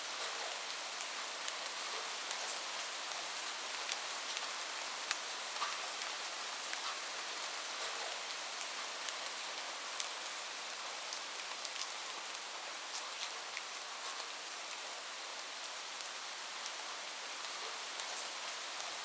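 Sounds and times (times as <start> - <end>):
rain falling on a roof: 0.0 - 19.0.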